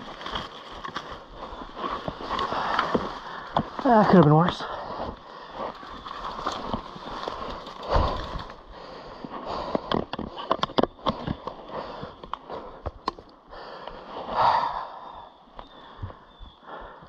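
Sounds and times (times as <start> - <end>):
mountain bike rattling: 0.0 - 13.8.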